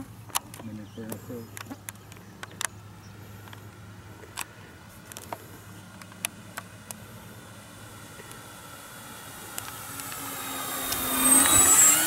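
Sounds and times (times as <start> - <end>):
distant electric motors hum: 0.0 - 12.0.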